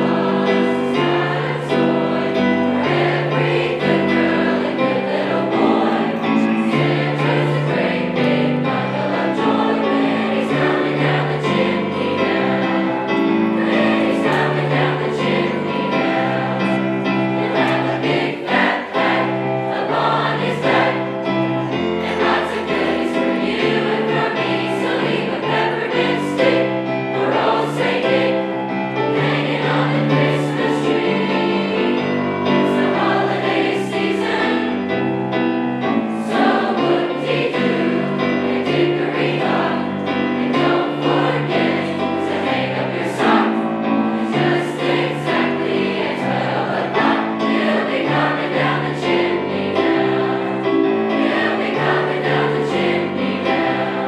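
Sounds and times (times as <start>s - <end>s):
choir singing sustained notes: 0.0s - 54.0s.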